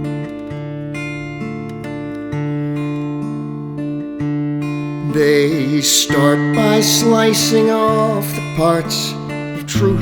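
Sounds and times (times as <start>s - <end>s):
acoustic guitar chords: 0.0s - 10.0s.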